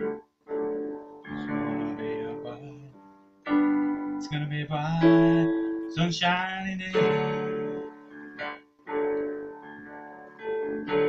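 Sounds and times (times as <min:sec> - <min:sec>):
electronic keyboard piano chords: 0:00.0 - 0:11.0.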